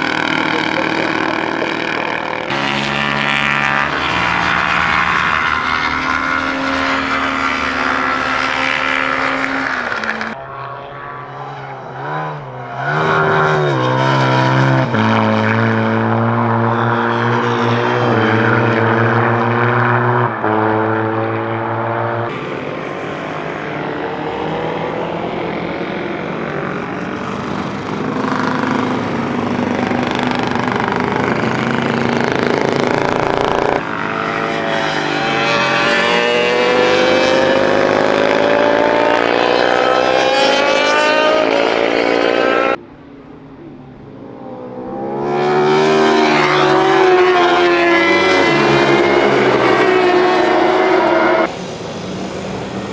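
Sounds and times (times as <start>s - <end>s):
racing motorcycle engines: 0.0s - 52.9s.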